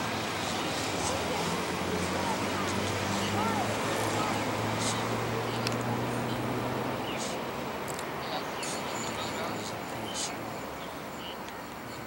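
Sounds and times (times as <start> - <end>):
distant jet engines roaring: 0.0 - 12.0.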